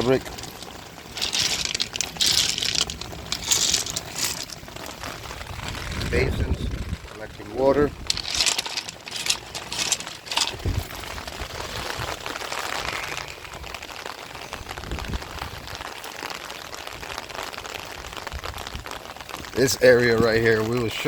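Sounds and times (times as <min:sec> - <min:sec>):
rain and running water: 0:00.0 - 0:21.0.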